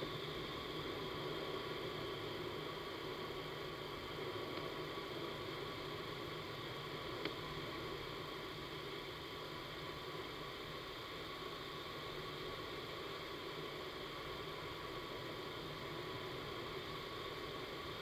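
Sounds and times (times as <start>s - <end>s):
faint steady tones: 0.0s - 18.0s
rush of air with fan hum: 0.0s - 18.0s.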